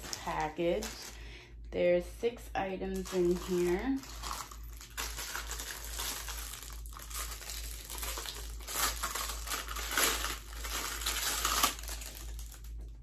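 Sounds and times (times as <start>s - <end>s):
plastic packaging crinkling: 0.0s - 1.4s, 2.9s - 13.0s.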